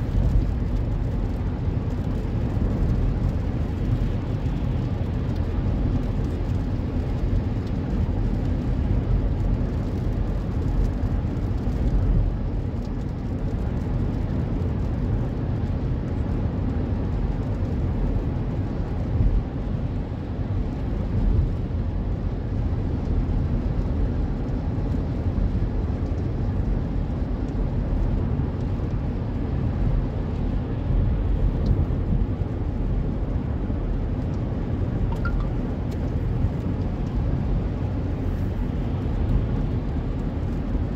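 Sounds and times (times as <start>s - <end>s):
car interior road rumble: 0.0s - 40.9s.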